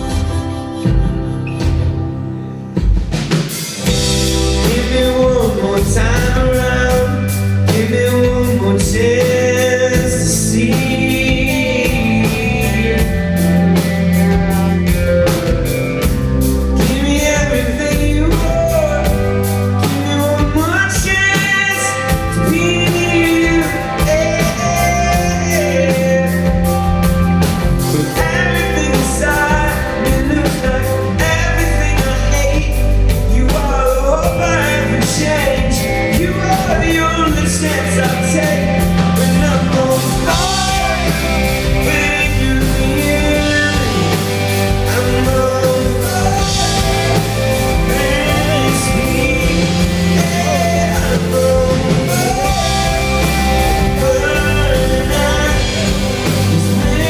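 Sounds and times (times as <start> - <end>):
bass: 0.0 - 57.0
drum beat with cymbals: 0.0 - 57.0
man singing: 3.8 - 57.0.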